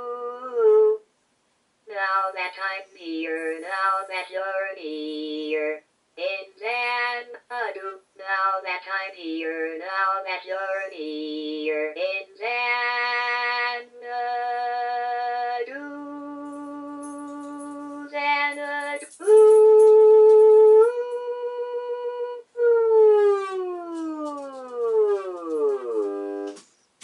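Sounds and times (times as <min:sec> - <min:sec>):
synthesized voice singing: 0:00.0 - 0:01.0, 0:01.9 - 0:26.5.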